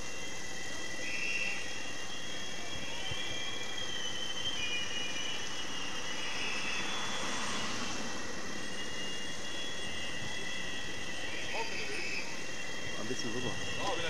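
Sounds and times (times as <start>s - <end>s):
high wavering whistle-like tones: 0.0s - 14.0s
street ambience: 0.0s - 14.0s.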